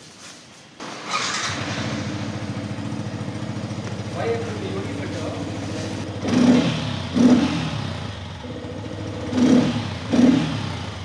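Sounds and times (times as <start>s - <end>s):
motorcycle engine idling and revving: 0.8s - 11.0s.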